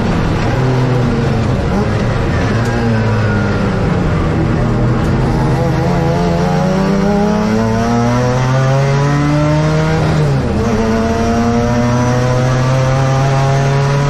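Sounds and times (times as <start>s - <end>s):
race car engine accelerating: 0.0s - 14.0s.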